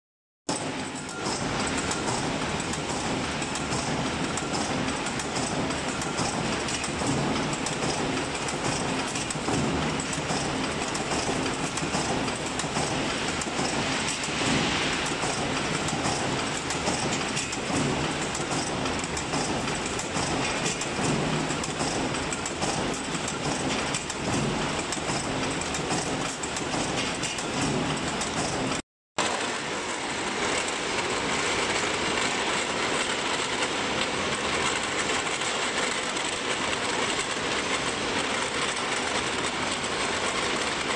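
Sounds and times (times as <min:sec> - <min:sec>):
dense metal clatter of rolling mill: 0:00.5 - 0:40.9.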